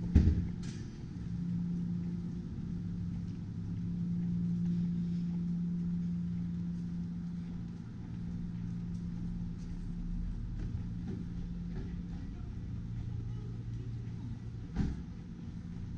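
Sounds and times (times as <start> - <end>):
low machine hum: 0.0 - 15.9
low rumble: 0.0 - 15.9.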